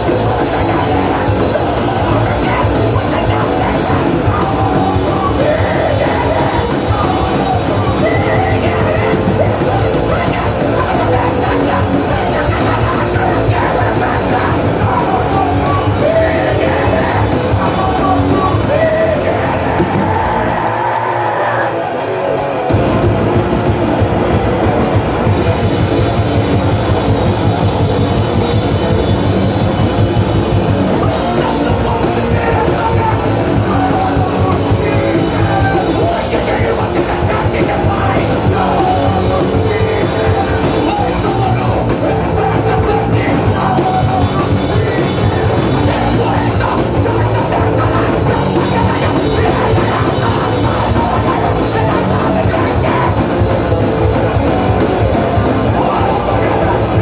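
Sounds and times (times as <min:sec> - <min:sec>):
drum kit: 0:00.0 - 0:21.6, 0:22.6 - 0:57.0
person singing into microphone: 0:00.0 - 0:21.9, 0:30.9 - 0:57.0
bass guitar: 0:00.0 - 0:57.0
distorted electric guitar: 0:00.0 - 0:57.0.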